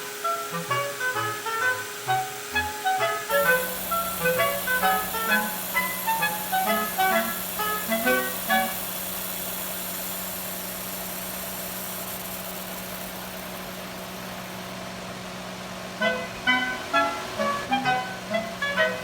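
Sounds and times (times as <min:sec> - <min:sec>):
air conditioning compressor hiss: 0:00.0 - 0:19.0
car engine humming: 0:03.3 - 0:19.0.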